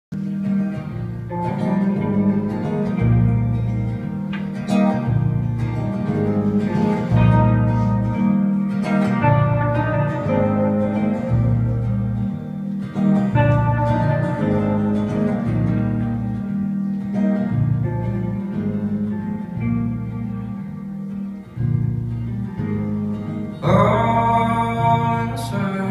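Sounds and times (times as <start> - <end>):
deep bass notes: 0.1 - 25.9
live guitar music: 0.1 - 25.9.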